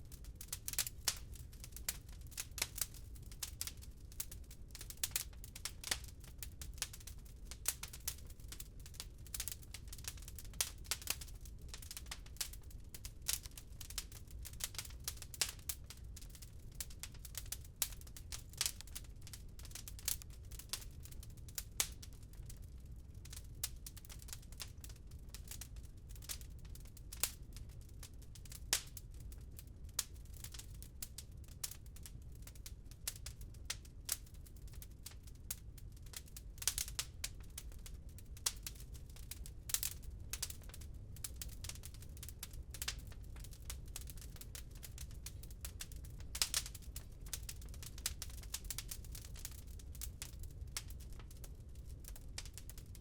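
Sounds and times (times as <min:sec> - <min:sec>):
low fire rumble: 0:00.0 - 0:53.0
wood fire crackling: 0:00.0 - 0:53.0.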